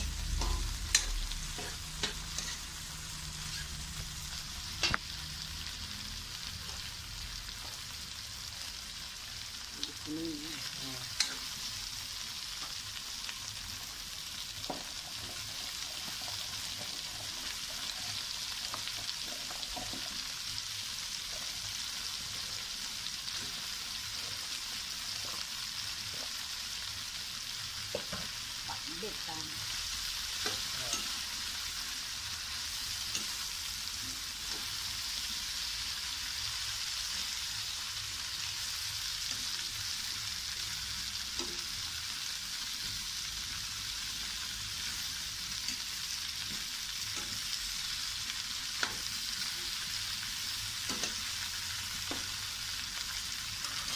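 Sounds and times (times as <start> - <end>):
food sizzling in a wok: 0.0 - 53.9.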